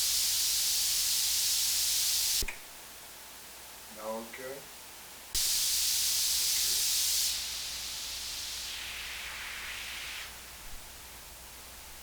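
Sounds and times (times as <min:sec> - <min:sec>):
bright steady electronic hiss: 0:00.0 - 0:12.0.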